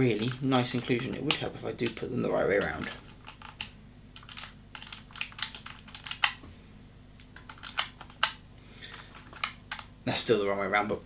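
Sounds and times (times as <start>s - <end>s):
keyboard keys clicking: 0.0s - 6.4s, 7.3s - 9.9s.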